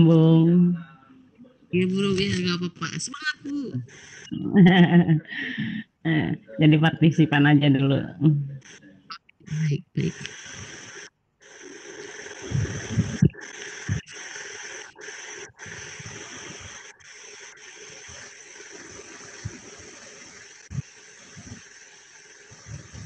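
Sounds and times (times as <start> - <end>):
microphone background hiss: 0.0 - 23.0.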